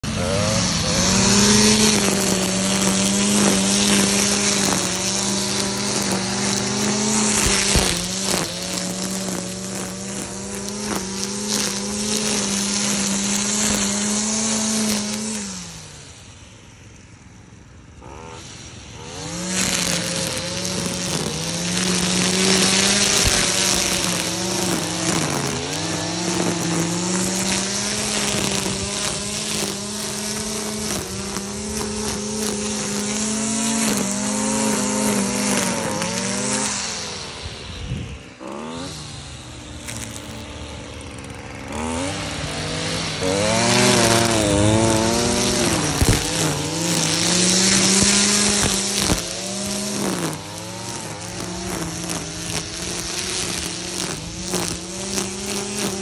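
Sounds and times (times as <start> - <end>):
petrol strimmer cutting grass: 0.0 - 56.0.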